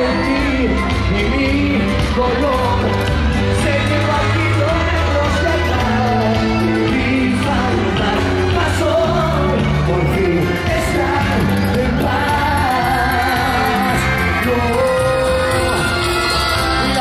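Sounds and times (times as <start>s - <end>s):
band playing amplified: 0.0s - 17.0s
person singing into microphone: 0.0s - 17.0s.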